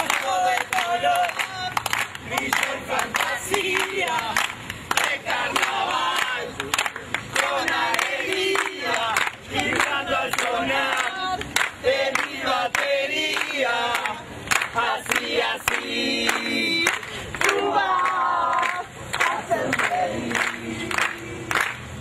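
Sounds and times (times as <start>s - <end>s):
crowd singing and chanting: 0.0s - 22.0s
hand claps: 0.0s - 22.0s.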